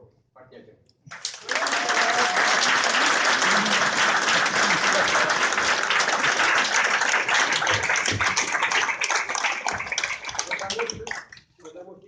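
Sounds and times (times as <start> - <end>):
audience applauding: 1.1 - 11.4.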